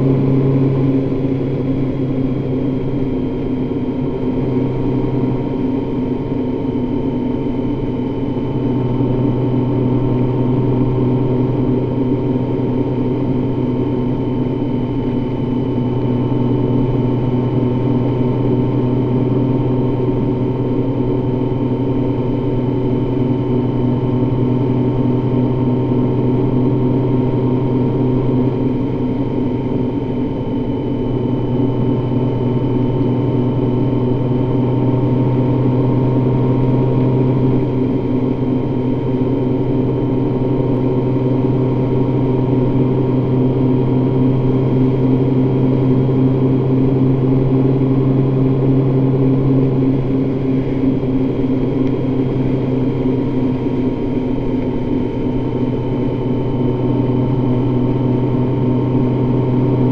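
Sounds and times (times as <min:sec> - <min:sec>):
motorcycle engine drone: 0:00.0 - 0:59.9.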